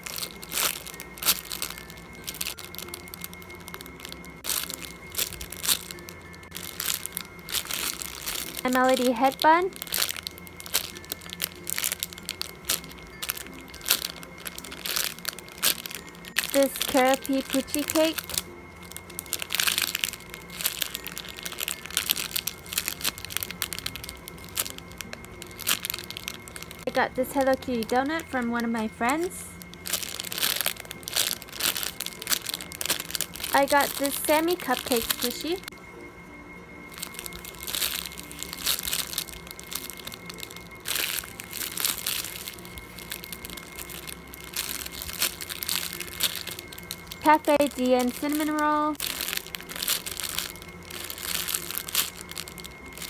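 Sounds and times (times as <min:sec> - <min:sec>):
plastic bags crinkling: 0:00.0 - 0:35.8, 0:36.9 - 0:53.0.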